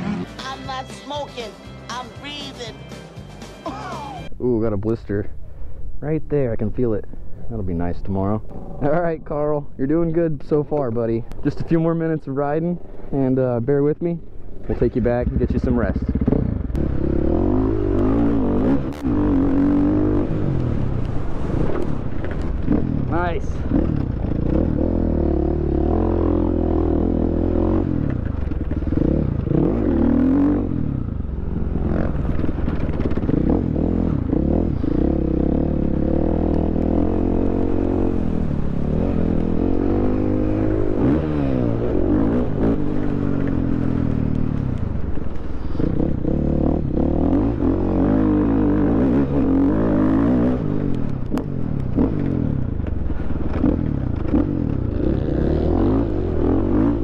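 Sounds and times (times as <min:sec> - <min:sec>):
motorcycle engine revving: 0:00.0 - 0:00.7, 0:08.1 - 0:57.0.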